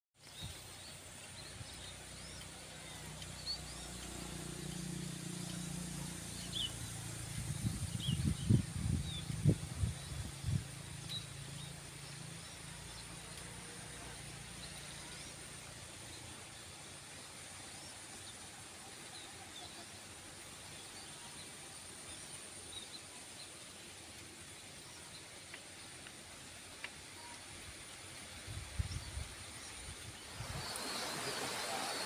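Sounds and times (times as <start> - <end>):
small birds chirping: 0.2 - 32.0
steady high hiss: 0.2 - 32.0.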